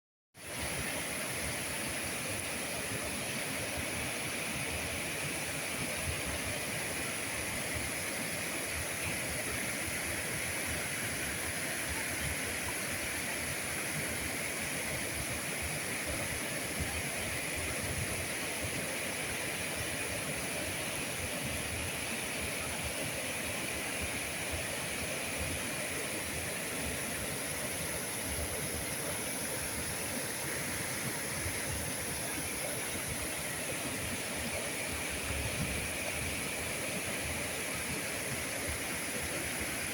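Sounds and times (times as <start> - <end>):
water rushing over a weir: 0.4 - 39.9.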